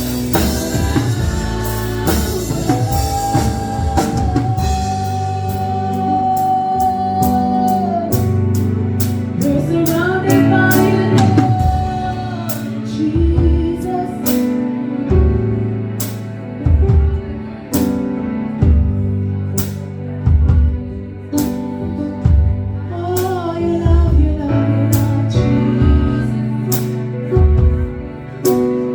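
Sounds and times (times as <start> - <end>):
people singing: 0.0 - 8.6, 9.2 - 15.7, 16.6 - 28.9
gospel band playing: 0.0 - 28.9.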